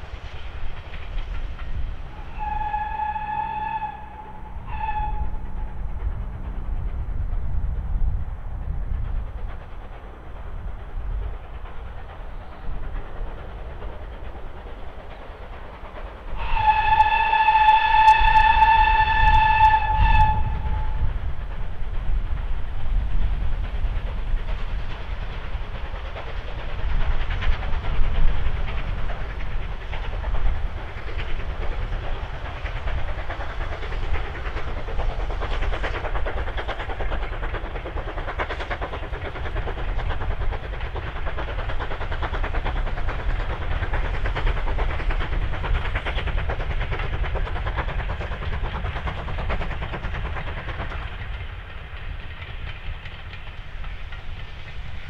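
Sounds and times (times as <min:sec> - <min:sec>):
steam locomotive exhaust: 0:00.0 - 0:55.0.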